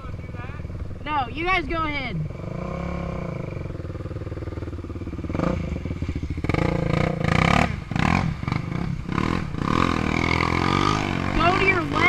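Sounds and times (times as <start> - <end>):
small off-road engine revving: 2.2 - 12.0.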